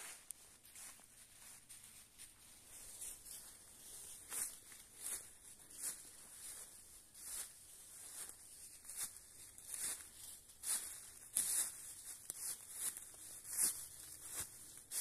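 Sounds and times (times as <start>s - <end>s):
footsteps on a trail: 0.0s - 15.0s.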